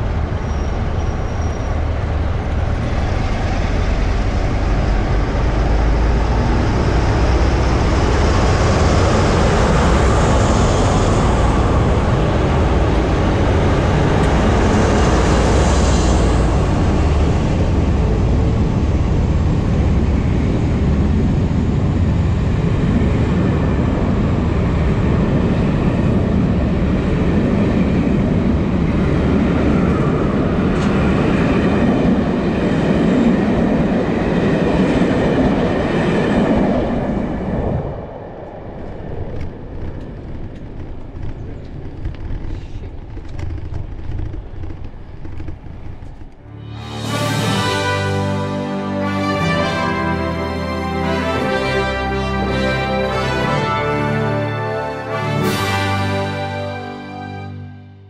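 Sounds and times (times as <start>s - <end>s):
carriages rolling past rumbling: 0.0s - 57.6s
diesel locomotives pulling away: 0.0s - 58.0s.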